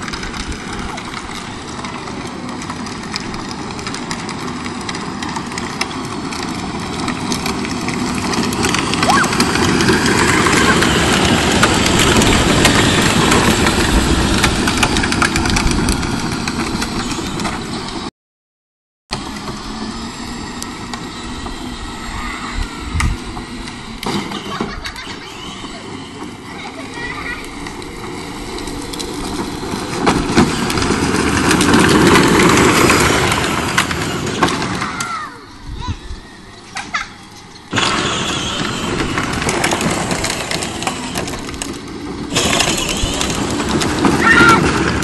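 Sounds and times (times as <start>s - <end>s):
electric toy car motors whining: 0.0s - 18.1s, 19.1s - 45.0s
outdoor noise: 0.0s - 18.1s, 19.1s - 45.0s.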